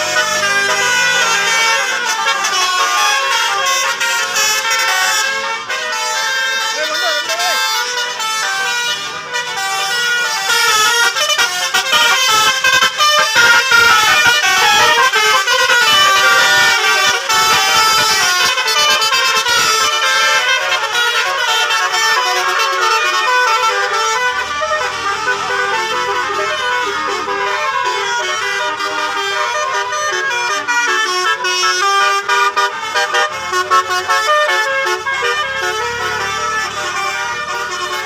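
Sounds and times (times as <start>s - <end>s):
multi-tone bus horn tune: 0.0s - 38.0s.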